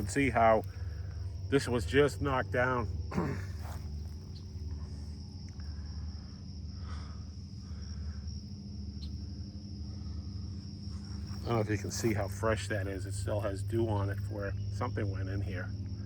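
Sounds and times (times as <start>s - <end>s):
high-pitched insect chorus: 0.0s - 16.0s
low rumble: 0.0s - 16.0s.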